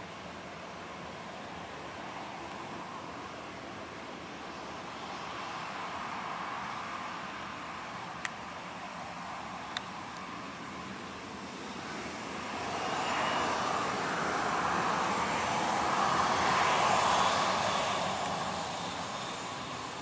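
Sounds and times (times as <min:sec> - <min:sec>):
airliner engine passing overhead: 0:00.0 - 0:20.0.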